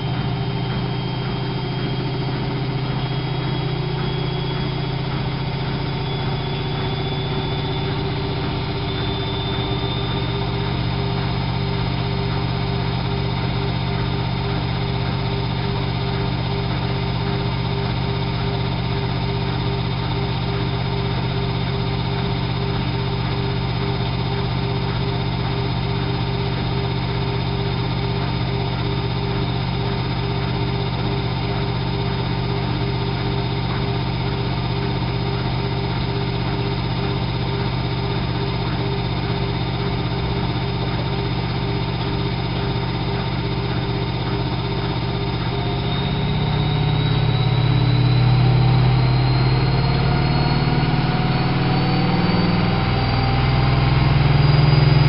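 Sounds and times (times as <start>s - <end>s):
drum motor whine: 0.0s - 55.0s
washing machine running: 0.0s - 55.0s.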